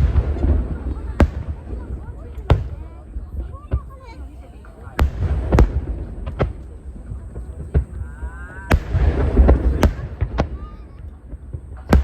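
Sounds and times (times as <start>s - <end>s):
firework shells booming: 0.0s - 12.0s
fireworks rumble and crackle: 0.0s - 12.0s.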